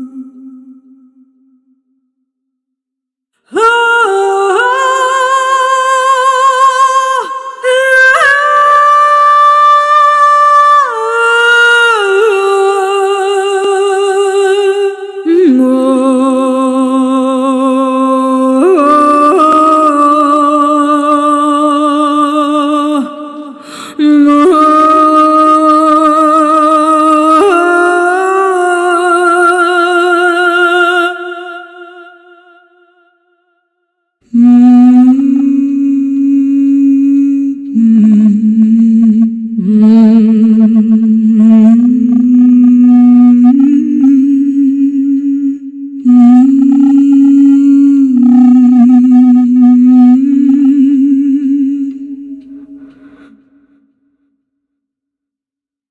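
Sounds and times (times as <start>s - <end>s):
female voice singing wordless notes: 3.4s - 32.2s, 34.3s - 53.3s.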